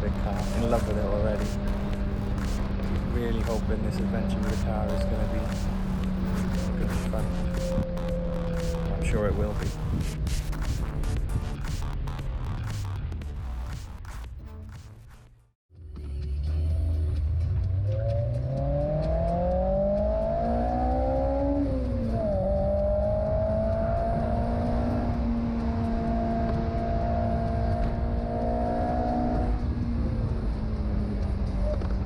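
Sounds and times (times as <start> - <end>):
car engine accelerating: 0.0 - 15.4, 16.5 - 32.0.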